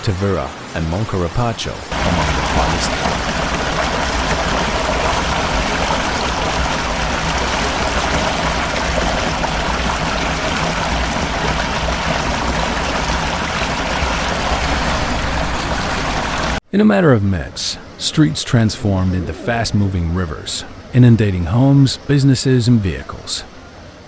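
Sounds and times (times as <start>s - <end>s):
floodwater rushing: 0.1s - 24.0s.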